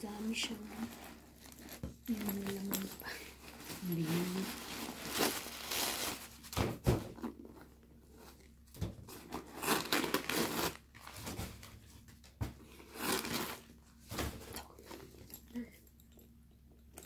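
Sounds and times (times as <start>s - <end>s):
paper crinkling and rustling: 0.2s - 7.6s, 8.2s - 15.1s.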